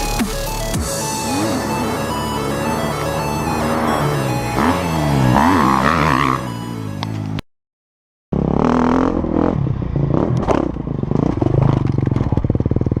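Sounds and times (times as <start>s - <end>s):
dirt bike engine revving: 0.1s - 7.0s, 8.3s - 13.0s.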